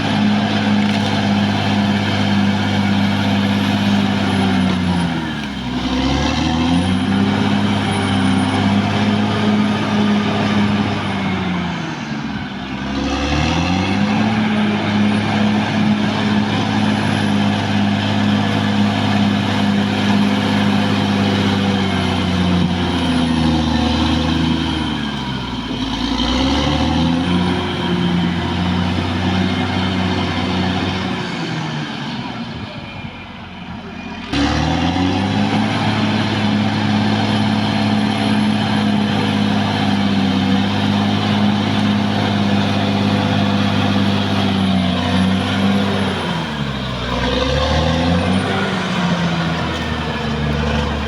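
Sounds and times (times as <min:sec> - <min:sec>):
bulldozer diesel engine running: 0:00.0 - 0:51.0.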